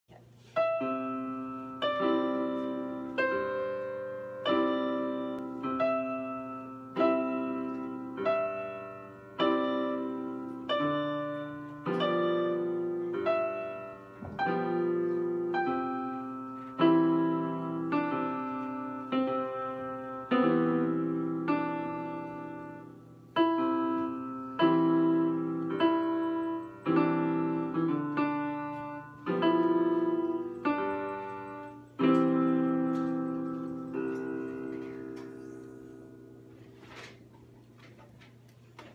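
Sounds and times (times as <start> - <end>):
keyboard piano chords: 0.4 - 38.9.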